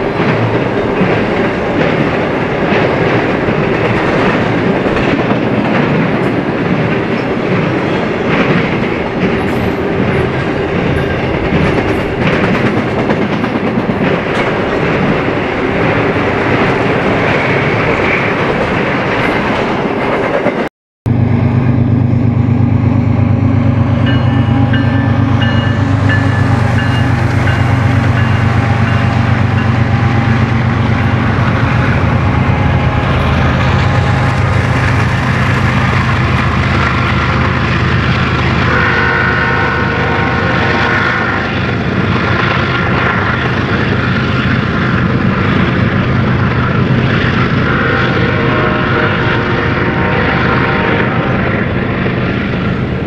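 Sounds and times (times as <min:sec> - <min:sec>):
diesel locomotive engines droning: 0:00.0 - 0:53.0.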